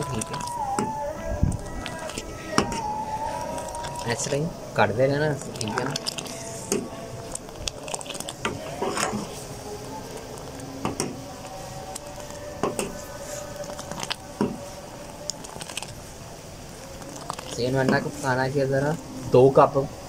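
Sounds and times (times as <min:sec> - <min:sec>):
faint steady hum: 0:00.0 - 0:20.0
liquid pouring and splashing: 0:01.4 - 0:18.7.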